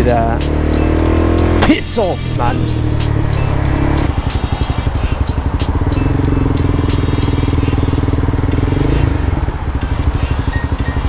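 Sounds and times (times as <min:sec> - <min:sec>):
motorcycle engine pulsing exhaust: 0:00.5 - 0:11.0.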